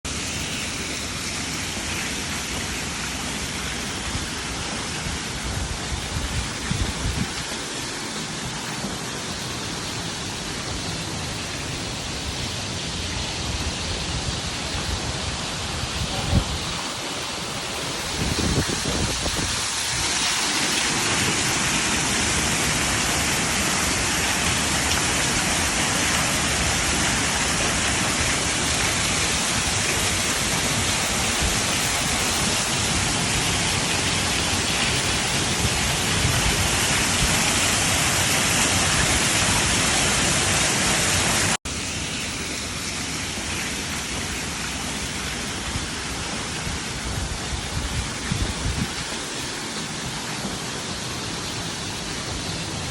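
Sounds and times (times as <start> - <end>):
waterfall roaring: 0.1 - 52.9.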